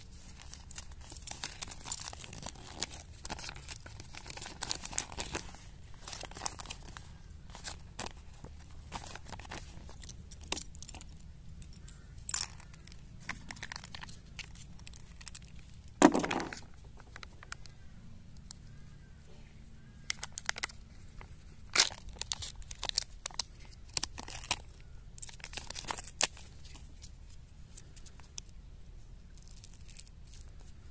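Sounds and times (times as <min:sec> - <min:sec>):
packaging crinkling and tearing: 0:00.0 - 0:17.7, 0:20.0 - 0:28.6, 0:29.3 - 0:30.9.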